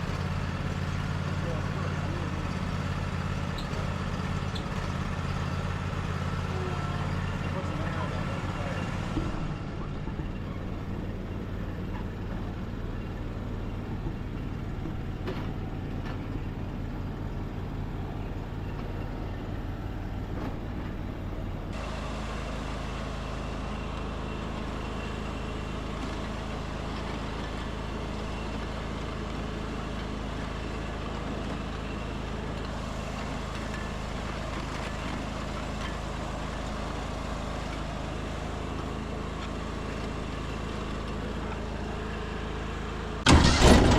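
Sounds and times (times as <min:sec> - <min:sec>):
riding lawn mower engine running: 0:00.0 - 0:43.9.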